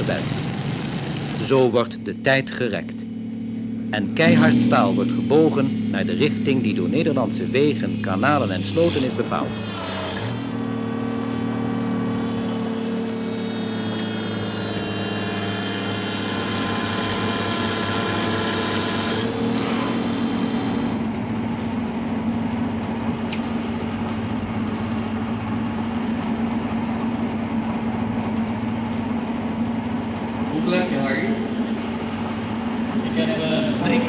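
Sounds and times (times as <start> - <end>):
pipe-bending machine whining: 0.0 - 34.0.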